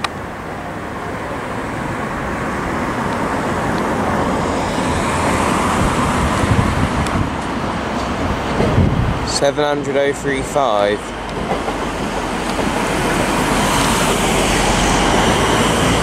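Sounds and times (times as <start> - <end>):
train wheel-on-rail noise: 0.0 - 16.0.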